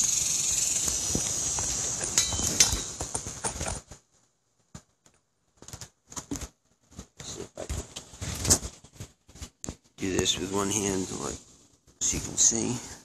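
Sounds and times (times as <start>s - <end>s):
handling rustle: 0.8s - 12.7s.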